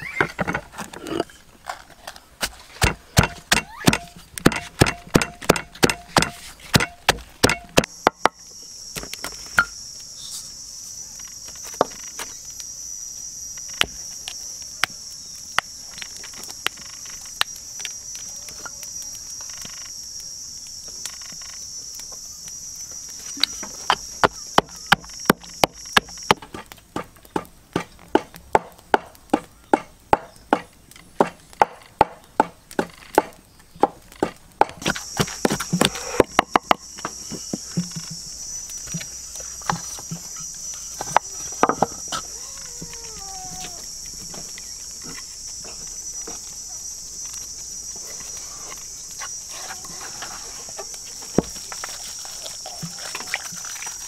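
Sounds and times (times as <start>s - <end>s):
insect droning: 0.0s - 54.0s.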